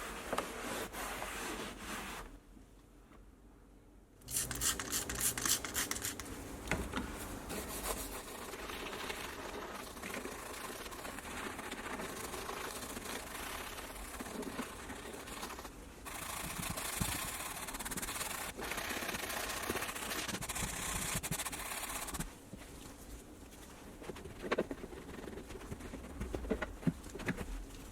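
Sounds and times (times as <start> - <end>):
rubbing and scrubbing on a car: 0.0 - 2.3, 4.4 - 27.9.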